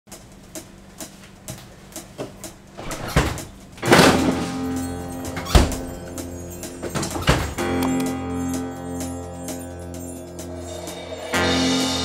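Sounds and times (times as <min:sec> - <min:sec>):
music with held chords: 0:00.1 - 0:02.8, 0:03.4 - 0:12.0
sharp clicking beat: 0:00.1 - 0:02.8, 0:04.7 - 0:11.9.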